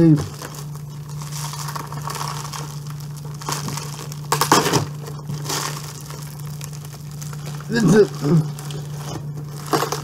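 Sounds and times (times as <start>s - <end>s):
packing tape crackling: 0.0s - 10.0s.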